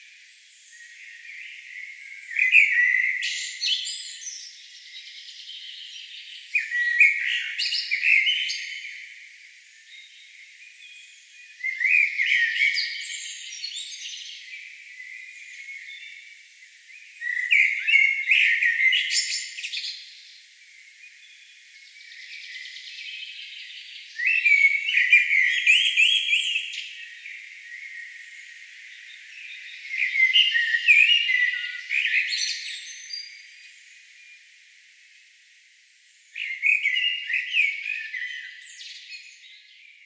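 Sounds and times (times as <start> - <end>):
songbird chirps and trills: 0.3 - 34.6, 36.0 - 40.0.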